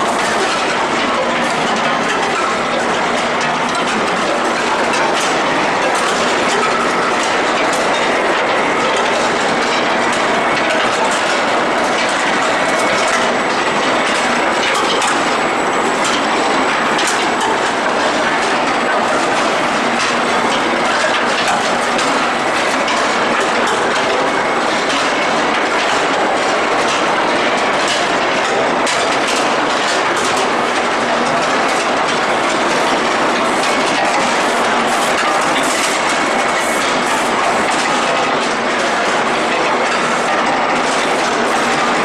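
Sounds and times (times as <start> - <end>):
machinery rattling and rumbling: 0.0 - 42.0.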